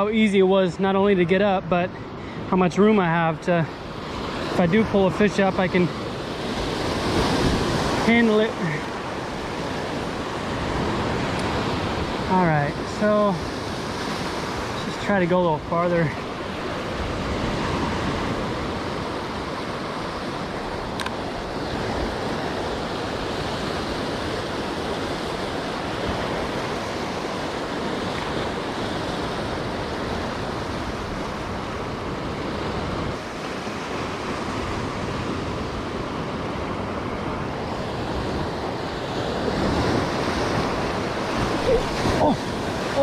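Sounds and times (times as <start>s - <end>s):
surf against rocky shore: 0.0s - 43.0s
wind: 0.0s - 43.0s.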